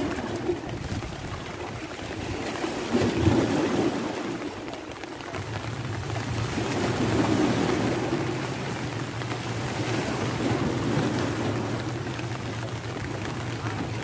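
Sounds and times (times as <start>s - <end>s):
rain: 0.0s - 14.0s
surf washing against rocks: 0.0s - 14.0s
wind: 0.0s - 14.0s.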